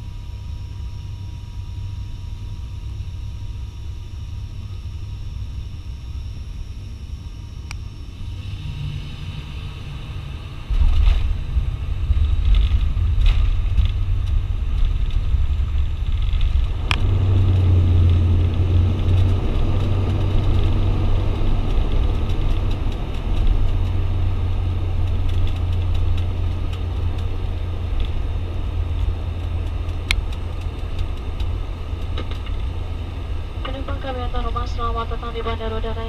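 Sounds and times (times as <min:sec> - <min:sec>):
turboprop engines droning: 0:00.0 - 0:36.0.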